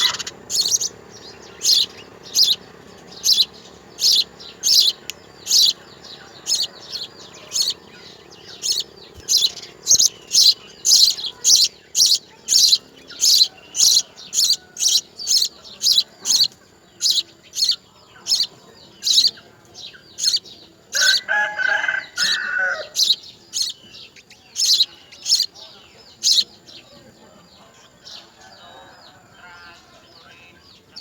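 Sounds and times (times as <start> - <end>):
baby bird chirping: 0.0 - 26.8.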